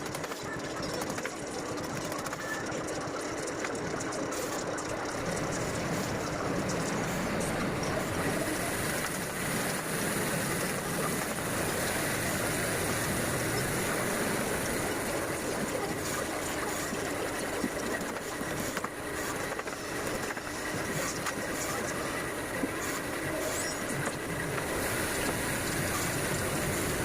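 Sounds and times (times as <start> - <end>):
faint high whine: 2.2 - 27.0.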